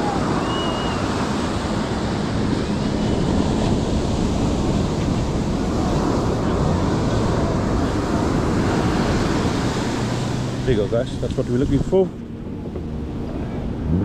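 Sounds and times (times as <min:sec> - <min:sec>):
surf breaking on beach: 0:00.0 - 0:12.2.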